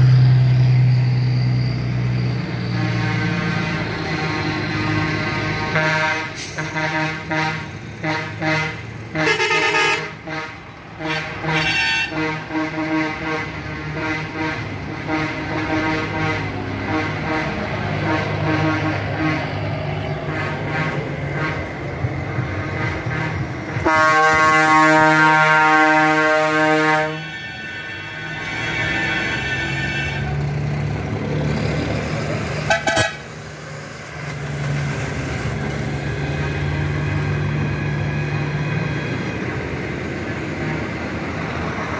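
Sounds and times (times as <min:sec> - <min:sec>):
truck engines: 0:00.0 - 0:41.9
truck horns blasting: 0:01.6 - 0:31.2, 0:32.0 - 0:33.5, 0:35.4 - 0:41.9.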